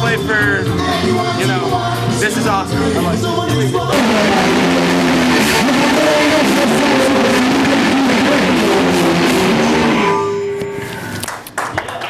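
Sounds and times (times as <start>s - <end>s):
rock band music: 0.0s - 10.5s.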